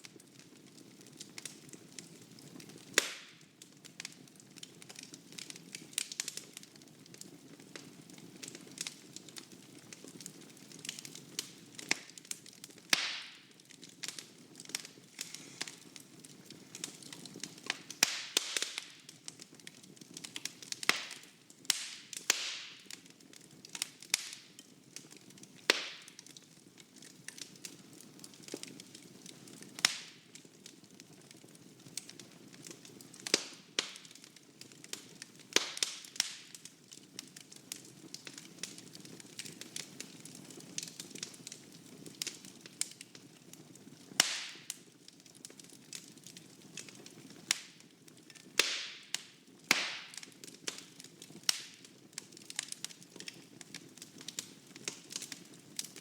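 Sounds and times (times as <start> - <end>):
burning wood crackling: 0.0 - 56.0.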